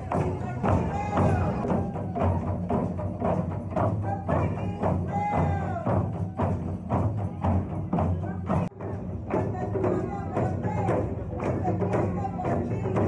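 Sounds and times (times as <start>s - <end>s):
people singing: 0.0s - 3.0s, 3.8s - 8.7s, 9.3s - 13.0s
drums steady beat: 0.0s - 13.0s.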